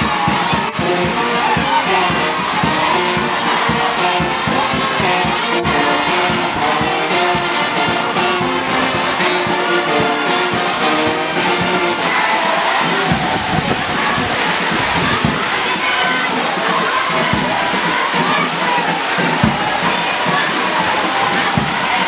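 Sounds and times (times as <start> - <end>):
brass band playing a march: 0.0 - 22.0
heavy rain hissing: 0.0 - 22.0.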